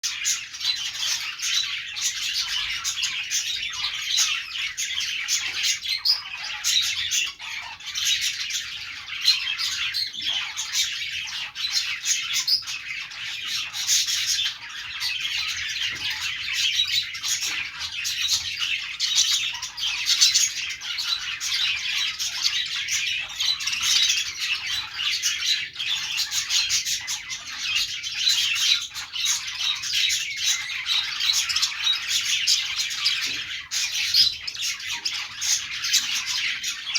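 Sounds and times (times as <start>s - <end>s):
budgerigars chattering and chirping: 0.0s - 36.9s.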